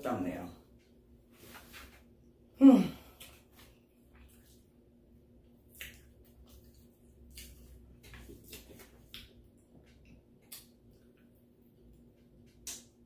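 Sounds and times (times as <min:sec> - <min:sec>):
low steady hum: 0:00.0 - 0:13.0
soft eating sounds: 0:00.2 - 0:13.0.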